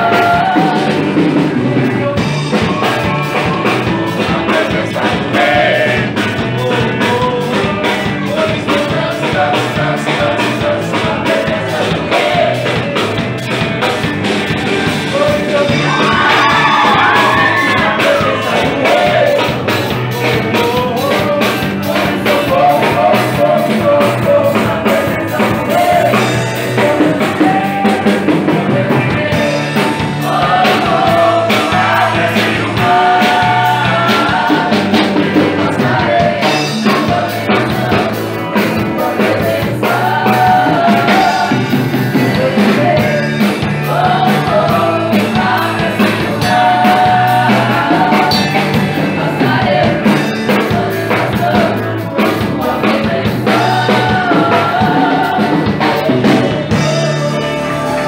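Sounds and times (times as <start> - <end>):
bass guitar: 0.0 - 58.0
drum kit beat: 0.0 - 58.0
electric guitar: 0.0 - 58.0
voices singing: 0.0 - 58.0.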